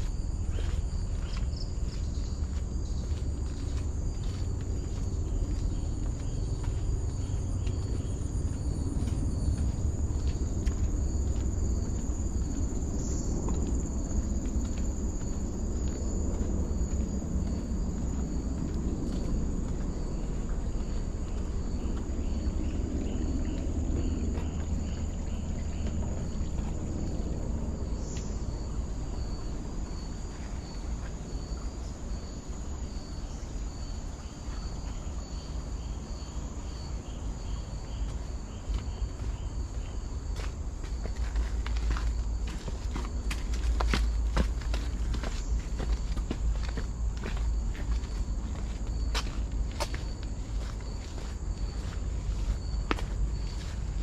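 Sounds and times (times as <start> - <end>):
insect high continuous buzz: 0.0 - 54.0.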